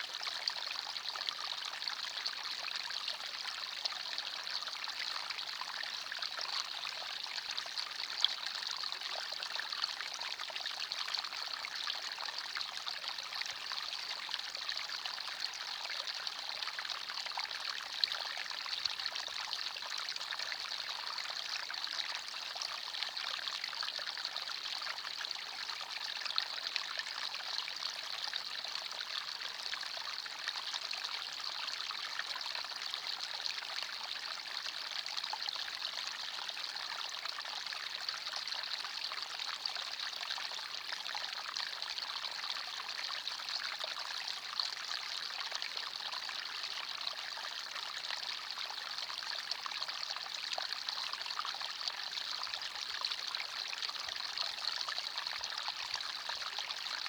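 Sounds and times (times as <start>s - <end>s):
stream trickling over stones: 0.4s - 57.0s.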